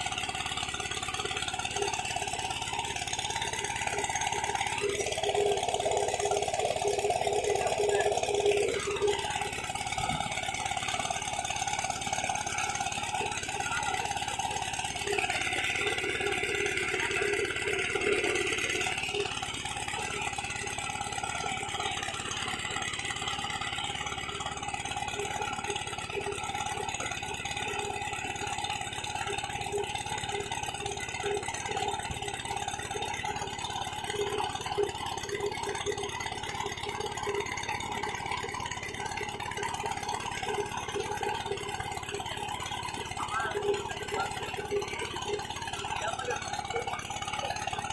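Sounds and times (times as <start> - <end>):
small engine rattling: 0.0 - 47.9.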